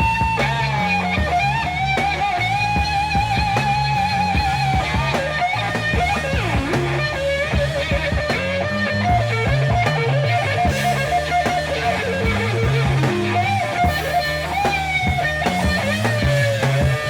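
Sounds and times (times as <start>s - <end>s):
bass guitar: 0.0s - 17.0s
drums: 0.0s - 17.0s
electric guitar with vibrato: 0.0s - 17.0s.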